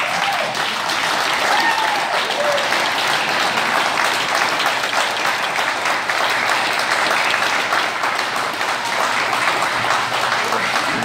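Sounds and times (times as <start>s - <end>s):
group applauding: 0.0s - 11.0s.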